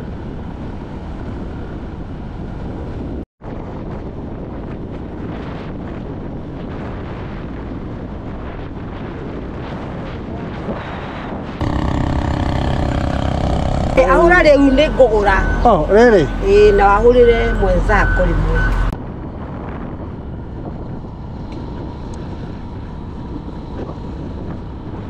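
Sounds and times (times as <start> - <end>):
wind rushing on microphone: 0.0 - 25.0.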